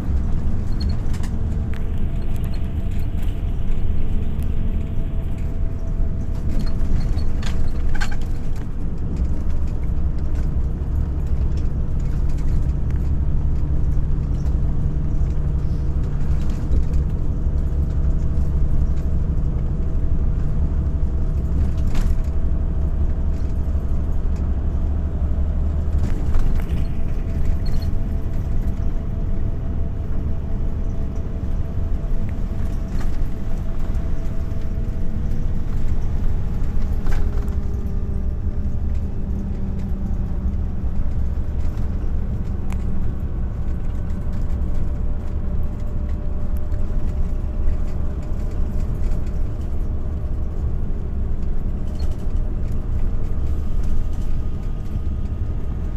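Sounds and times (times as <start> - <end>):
vehicle engine rumble: 0.0 - 55.9.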